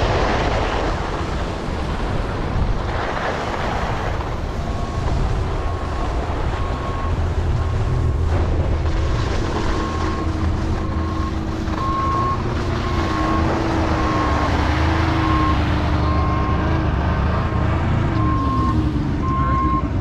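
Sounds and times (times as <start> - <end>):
engine rumble: 0.0 - 20.0.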